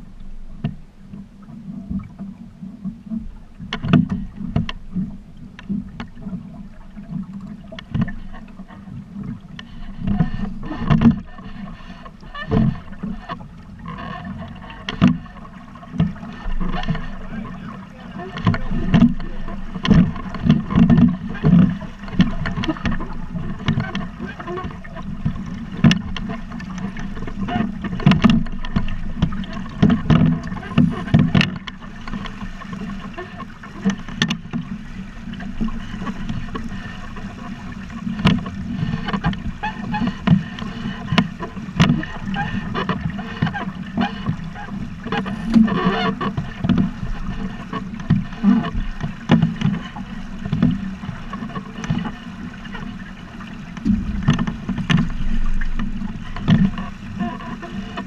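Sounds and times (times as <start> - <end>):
water rushing against boat hull: 0.0 - 58.0
waves thumping on bow: 0.0 - 58.0.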